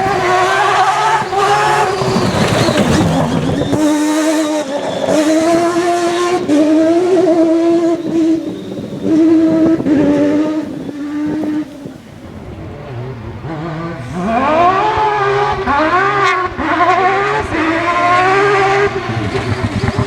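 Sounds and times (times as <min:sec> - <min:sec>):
gear changes: 0:00.0 - 0:20.0
rotary engine revving: 0:00.0 - 0:20.0.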